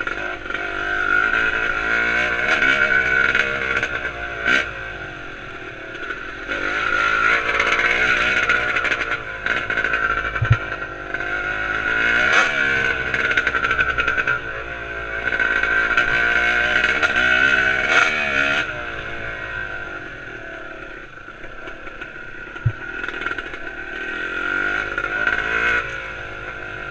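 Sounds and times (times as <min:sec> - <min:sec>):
two-stroke engine revving: 0:00.0 - 0:26.9.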